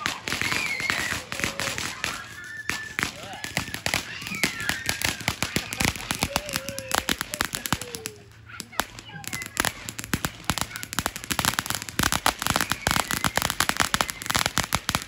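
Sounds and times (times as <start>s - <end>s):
firework crackling pops: 0.0s - 15.0s.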